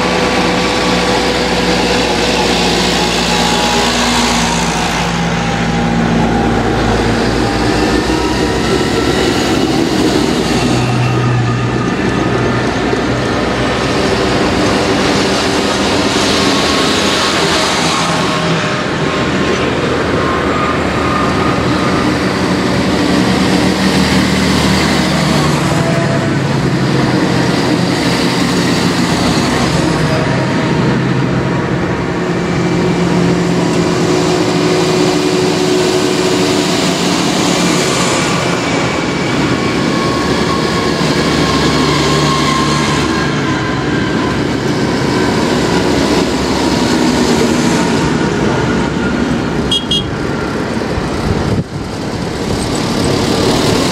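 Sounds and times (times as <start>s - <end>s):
tractor engines driving past: 0.0s - 53.9s.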